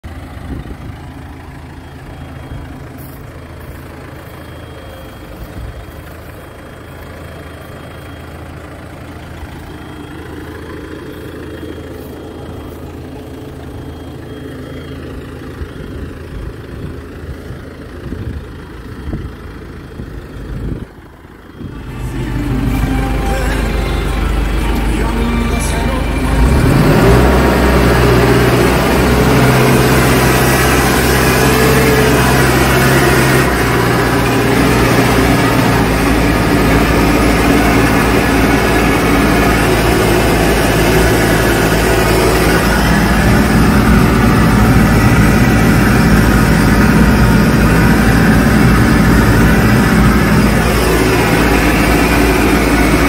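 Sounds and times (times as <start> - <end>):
tractor engine running under load: 0.0 - 53.0.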